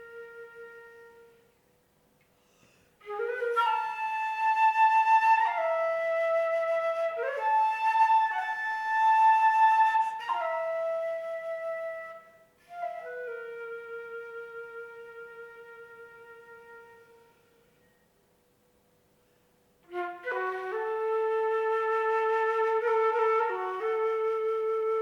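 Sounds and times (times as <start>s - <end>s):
solo flute: 0.0s - 1.7s, 2.7s - 18.2s, 19.8s - 25.0s.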